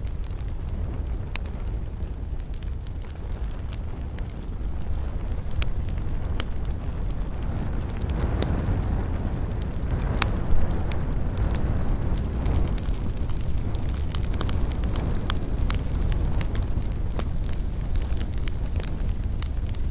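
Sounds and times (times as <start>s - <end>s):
fire crackles and pops: 0.0s - 19.9s
wood fire burning: 0.0s - 19.9s.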